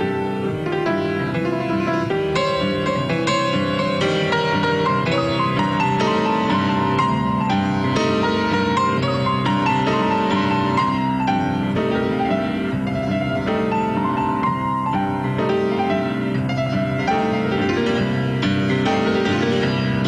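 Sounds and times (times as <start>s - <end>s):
solo piano playing: 0.0s - 20.0s.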